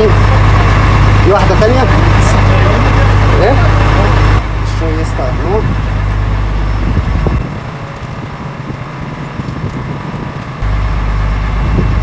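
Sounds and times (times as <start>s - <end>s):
boat engine humming: 0.0s - 12.0s
wind: 0.0s - 12.0s.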